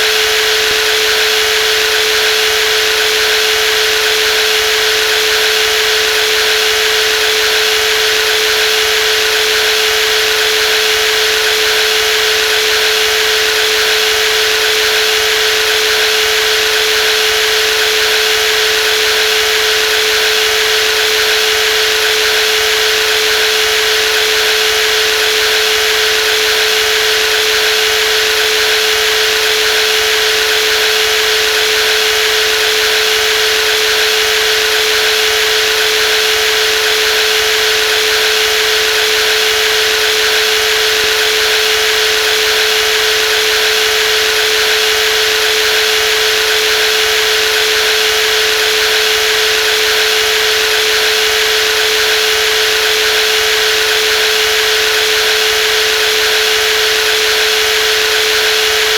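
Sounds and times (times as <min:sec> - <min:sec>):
jigsaw running: 0:00.1 - 0:58.9.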